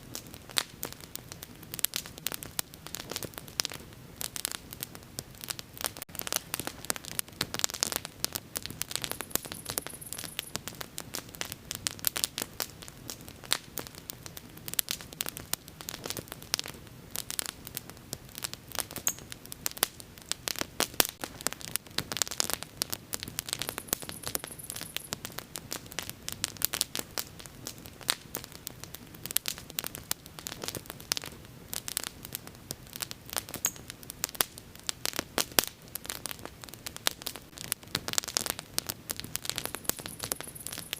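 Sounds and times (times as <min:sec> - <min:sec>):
bonfire crackling: 0:00.0 - 0:40.9.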